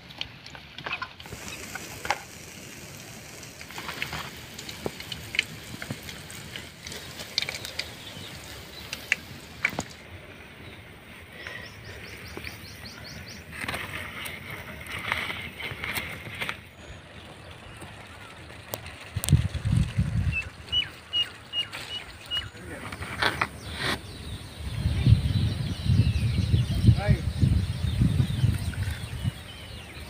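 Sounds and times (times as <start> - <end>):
hot oil crackling and popping: 0.0 - 30.0.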